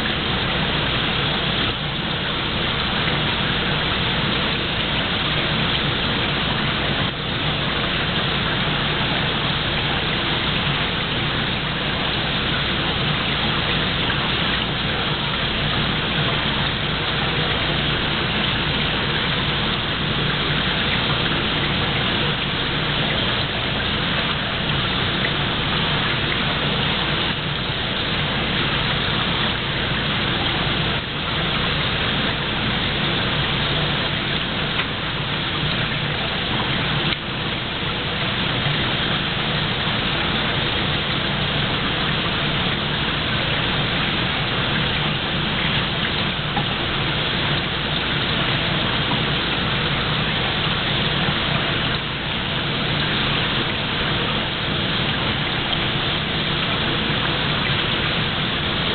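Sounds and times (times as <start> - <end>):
steady rushing hiss: 0.0 - 58.9.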